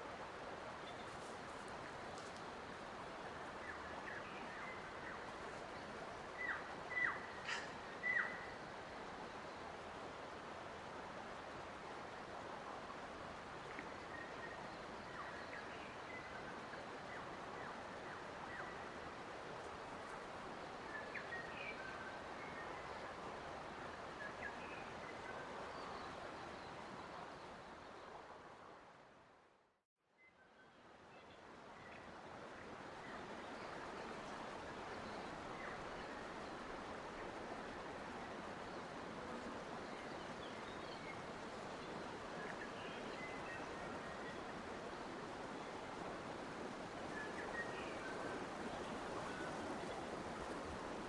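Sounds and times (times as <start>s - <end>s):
steady background hiss: 0.0s - 29.6s, 30.2s - 51.0s.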